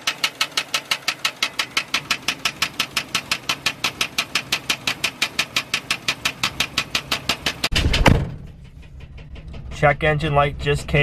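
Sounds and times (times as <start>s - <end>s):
engine idling: 0.0s - 11.0s
rapid engine ticking: 0.0s - 11.0s.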